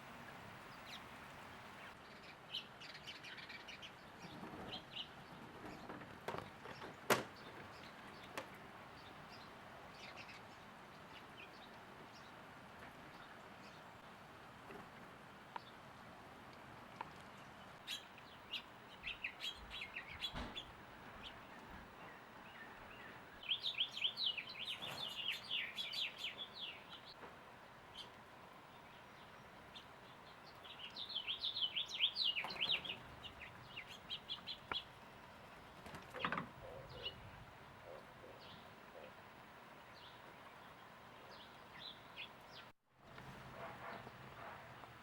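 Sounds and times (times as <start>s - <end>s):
songbirds chirping and twittering: 0.0s - 45.0s.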